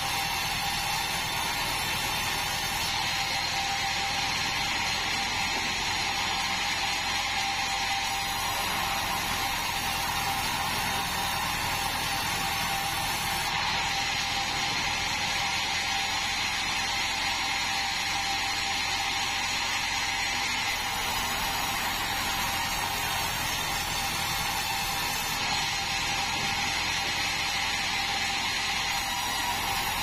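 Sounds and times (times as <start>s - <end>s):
band saw whirring: 0.0s - 30.0s.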